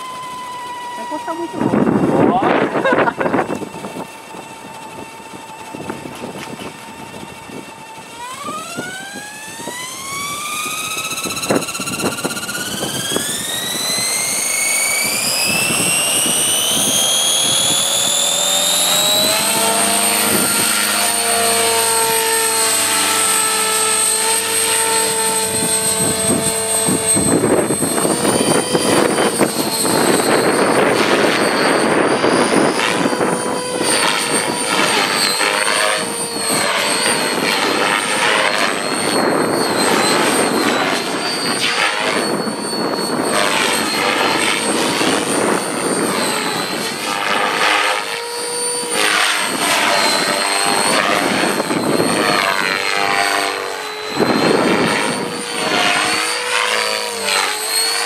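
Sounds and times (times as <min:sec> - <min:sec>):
electric helicopter whine: 0:00.0 - 0:58.0
rotor hum: 0:00.0 - 0:58.0.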